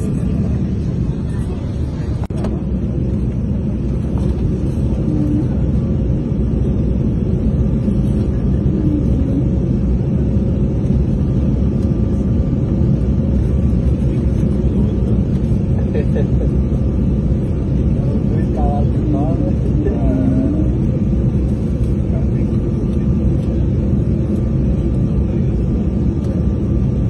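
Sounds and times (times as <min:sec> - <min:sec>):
airliner engines and rushing air: 0:00.0 - 0:27.0.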